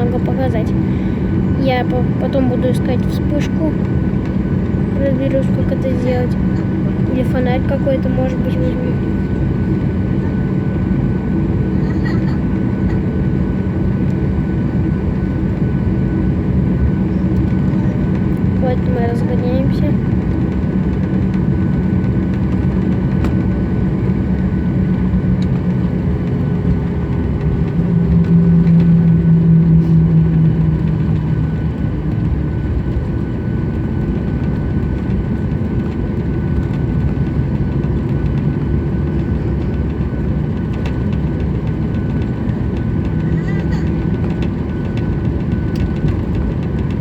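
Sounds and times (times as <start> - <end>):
airliner engines drone in cabin: 0.0 - 47.0.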